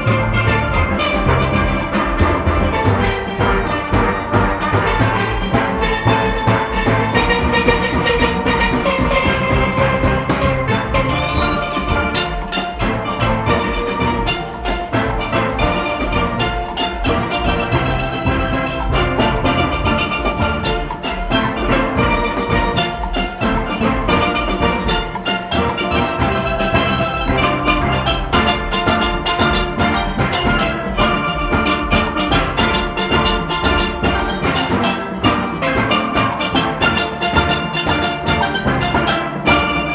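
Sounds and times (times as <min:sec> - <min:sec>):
drums and percussion: 0:00.0 - 0:39.9
steelpan band playing: 0:00.0 - 0:39.9.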